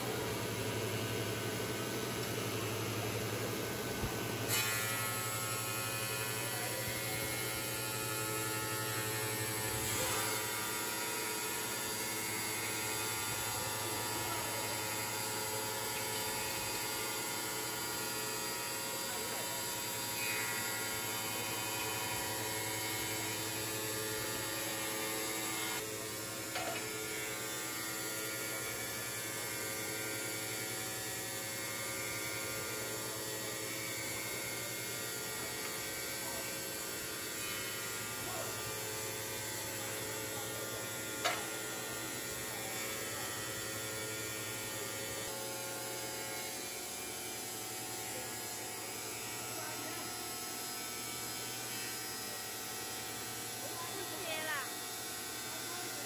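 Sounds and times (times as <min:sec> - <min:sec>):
tile cutting machine humming: 0:00.0 - 0:56.0.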